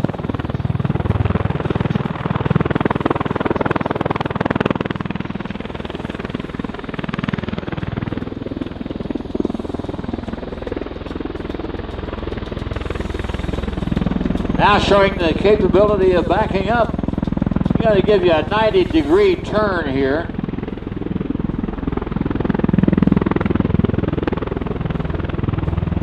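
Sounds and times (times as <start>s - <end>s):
pulsing beat of rotors: 0.0s - 26.0s
turboshaft engines running: 0.0s - 26.0s.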